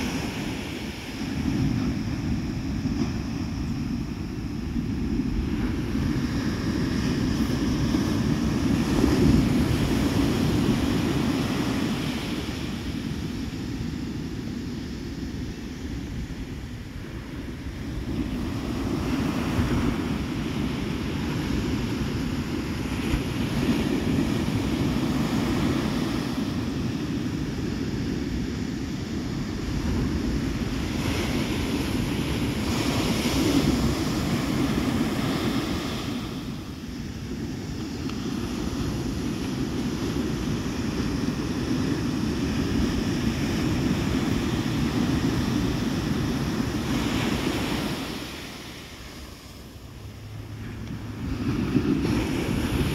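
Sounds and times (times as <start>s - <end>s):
ocean surf breaking on beach: 0.0s - 52.9s
wind rumbling on microphone: 0.0s - 52.9s.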